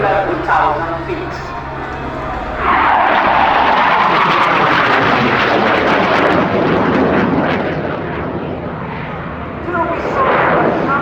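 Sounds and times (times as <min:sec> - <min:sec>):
jet passing at high power: 0:00.0 - 0:11.0.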